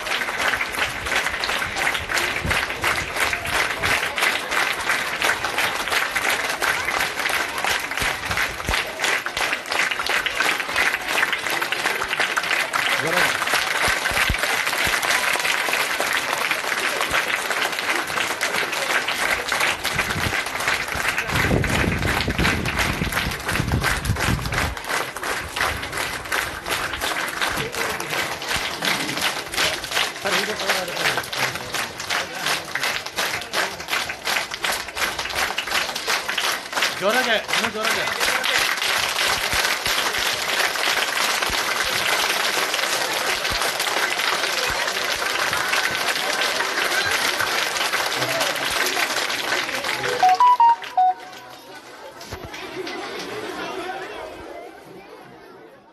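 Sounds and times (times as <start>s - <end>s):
children applauding: 0.0s - 53.7s.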